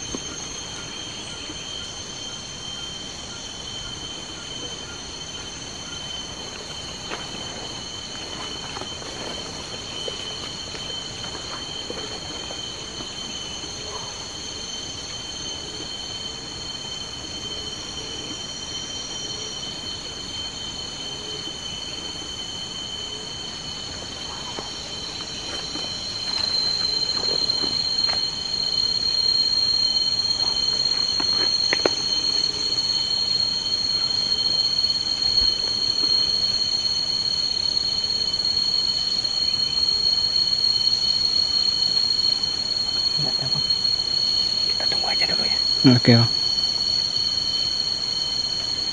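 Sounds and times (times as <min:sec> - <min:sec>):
insects shrilling: 0:00.0 - 0:48.9.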